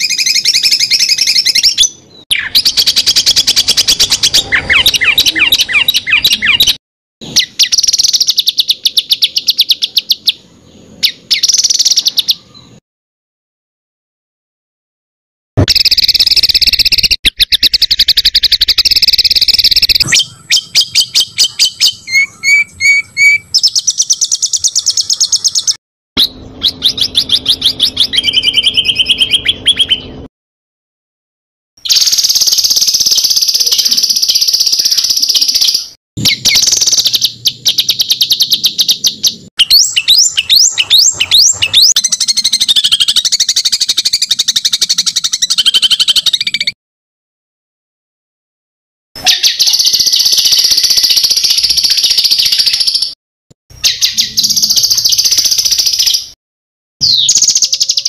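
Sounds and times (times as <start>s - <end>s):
recorded songbird song: 0.0s - 12.8s, 15.6s - 30.3s, 31.8s - 46.8s, 49.2s - 56.4s, 57.0s - 58.0s.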